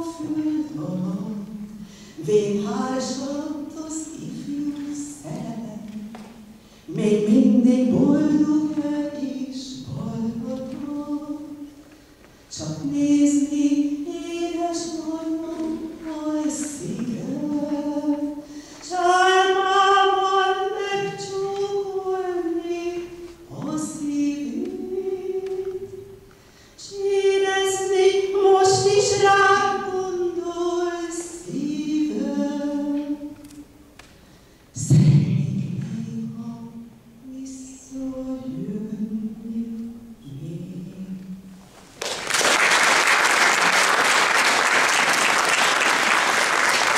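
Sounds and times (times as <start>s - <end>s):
woman singing unaccompanied: 0.0s - 11.9s, 12.5s - 33.8s, 34.8s - 41.5s.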